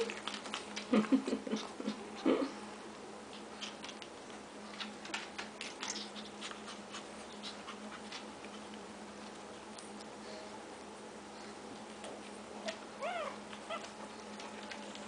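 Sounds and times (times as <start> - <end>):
puppies scratching and rustling: 0.0 - 15.0.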